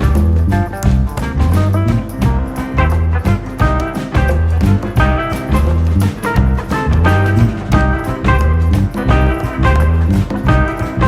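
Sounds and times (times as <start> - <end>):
swing jazz music: 0.0 - 11.0.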